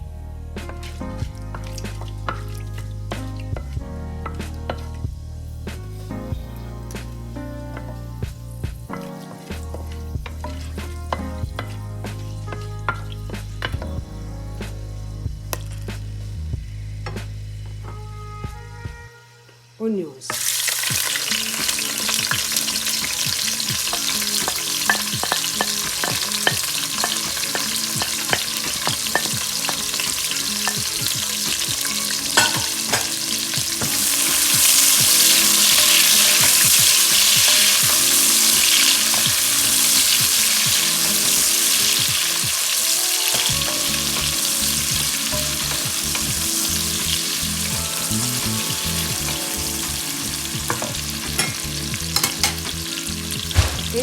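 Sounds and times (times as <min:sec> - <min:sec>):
onions sizzling in oil: 0:04.3 - 0:17.8, 0:20.3 - 0:54.0.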